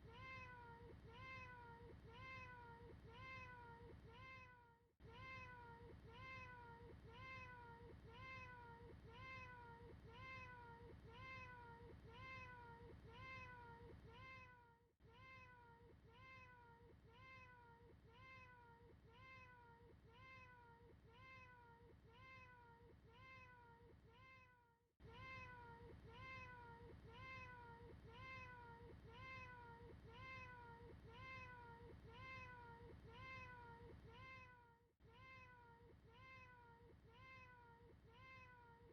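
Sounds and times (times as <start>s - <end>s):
faint cat meows: 0.0s - 38.9s.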